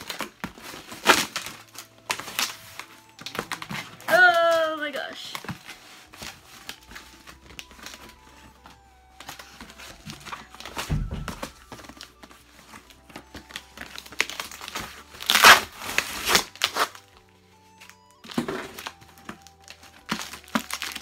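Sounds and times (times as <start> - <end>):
cardboard tearing and crinkling: 0.0 - 21.0.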